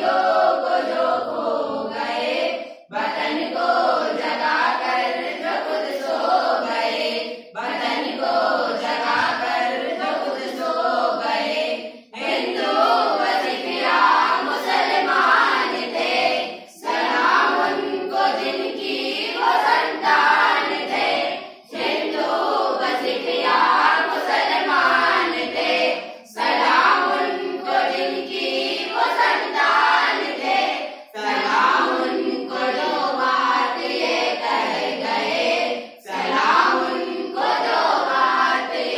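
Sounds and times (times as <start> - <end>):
children singing in unison: 0.0 - 38.9.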